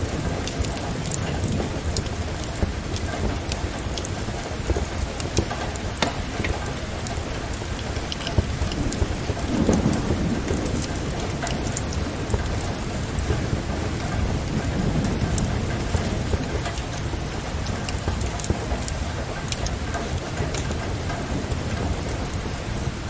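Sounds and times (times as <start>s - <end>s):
steady rain: 0.0s - 23.0s
thunder rumbling: 0.0s - 23.0s
wood fire crackling: 0.0s - 23.0s.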